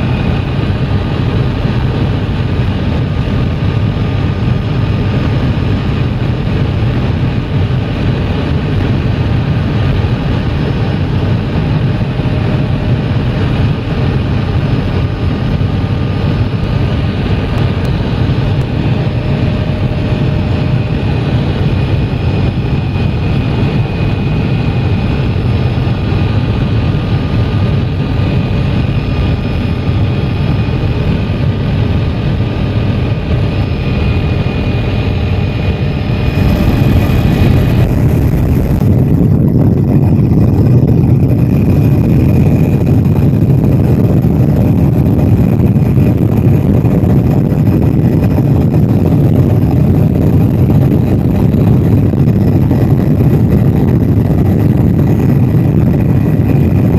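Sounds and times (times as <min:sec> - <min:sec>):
helicopter engine and rotor rumble: 0:00.0 - 0:56.9
thin whine: 0:00.0 - 0:56.9.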